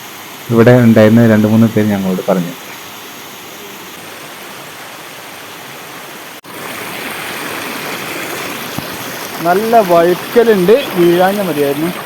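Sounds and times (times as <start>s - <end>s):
waterfall running over rocks: 0.0s - 12.0s.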